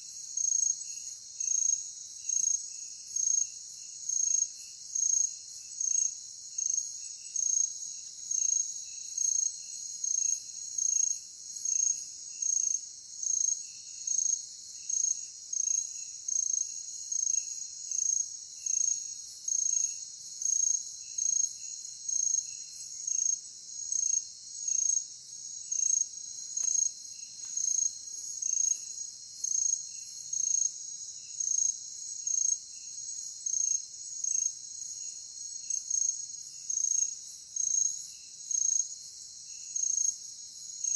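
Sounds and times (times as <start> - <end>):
faint low insect chirps: 0.0 - 40.9
insects buzzing: 0.0 - 40.9
loud insect chirp: 0.0 - 40.9.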